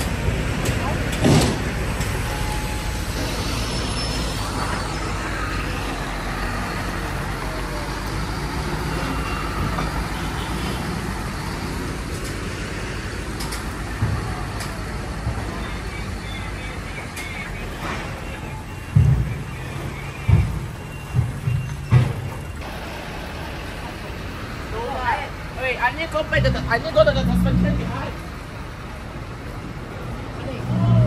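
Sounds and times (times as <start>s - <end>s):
diesel truck engine rumbling: 0.0s - 31.0s.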